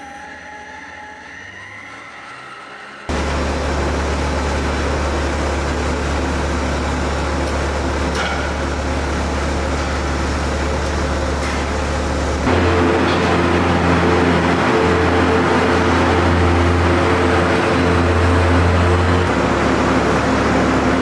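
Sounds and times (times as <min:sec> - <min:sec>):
barn equipment humming: 0:00.0 - 0:21.0.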